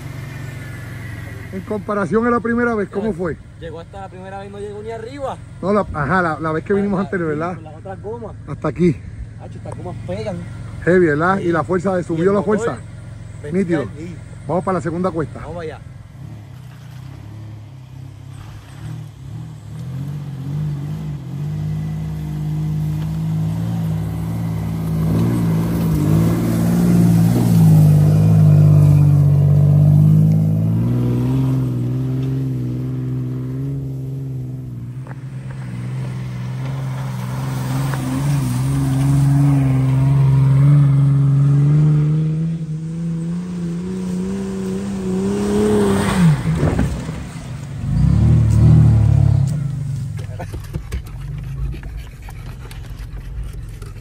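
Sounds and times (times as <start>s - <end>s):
vehicle engine under load: 0.0s - 54.0s.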